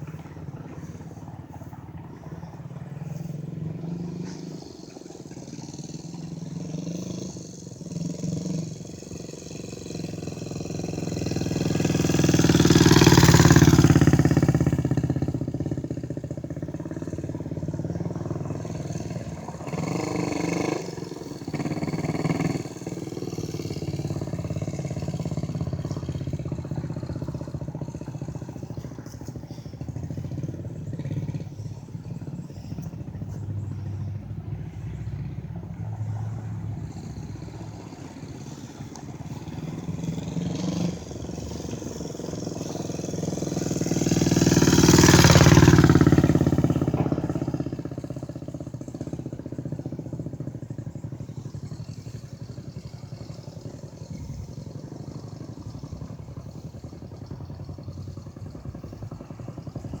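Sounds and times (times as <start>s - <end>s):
low rumble of traffic: 0.0s - 60.0s
vehicle passing: 0.0s - 60.0s.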